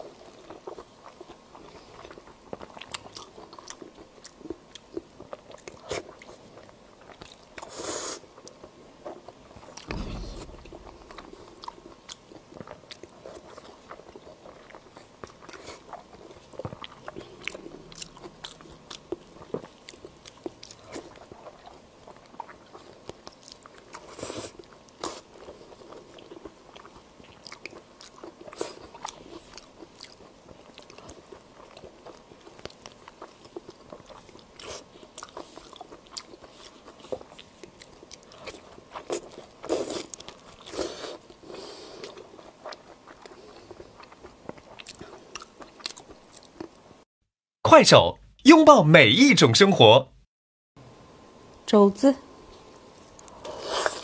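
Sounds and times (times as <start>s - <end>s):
person chewing meat: 0.0s - 9.9s, 10.5s - 46.9s.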